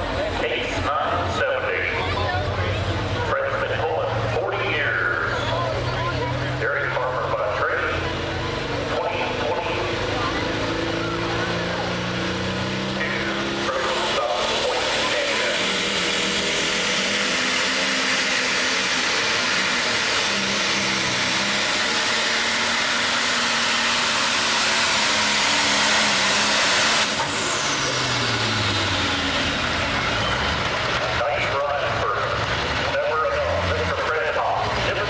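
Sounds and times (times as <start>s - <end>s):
diesel tractor engine at full throttle: 0.0s - 35.0s.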